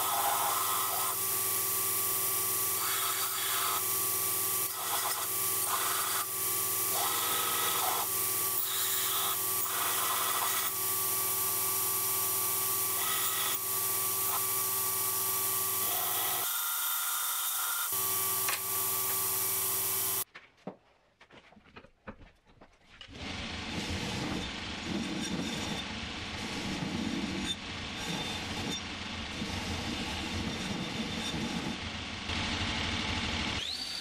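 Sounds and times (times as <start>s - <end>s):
steel grinding on belt: 0.0s - 20.2s, 23.6s - 31.9s
belt grinder running: 0.0s - 20.3s, 23.1s - 34.0s.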